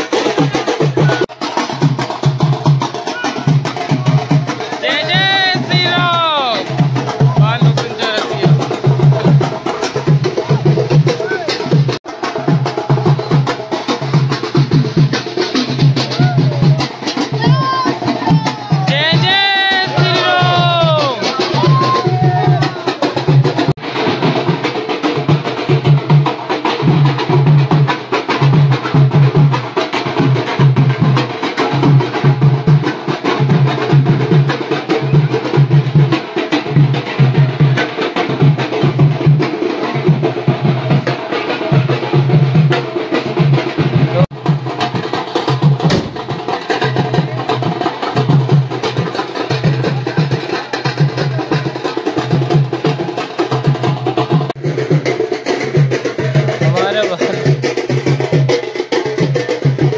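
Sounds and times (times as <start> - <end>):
loud rhythmic drum music: 0.0 - 59.9.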